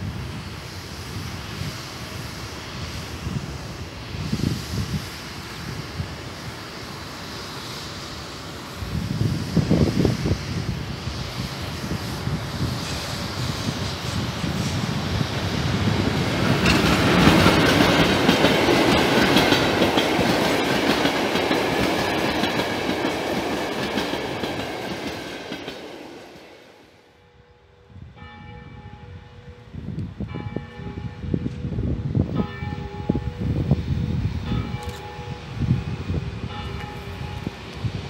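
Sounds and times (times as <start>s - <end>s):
rumble of train at station: 0.0s - 38.0s
train passing at speed: 0.0s - 38.0s.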